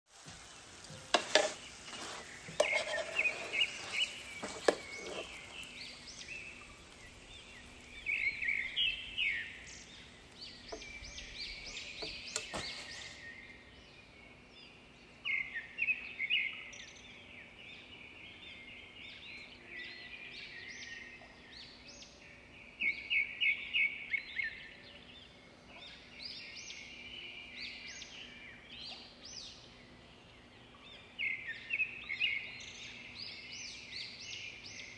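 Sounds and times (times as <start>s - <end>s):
birds chirping and singing: 0.9s - 34.9s.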